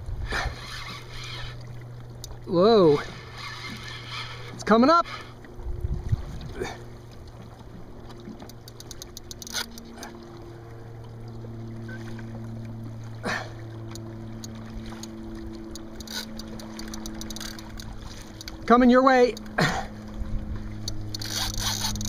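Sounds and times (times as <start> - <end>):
steady low hum: 0.0 - 22.0
water lapping against kayak hull: 0.0 - 22.0
water splashes: 0.0 - 22.0.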